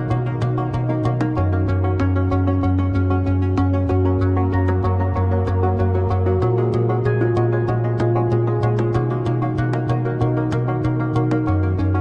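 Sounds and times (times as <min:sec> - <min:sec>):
background music with bass and chords: 0:00.0 - 0:12.0
light ticking percussion: 0:00.0 - 0:12.0.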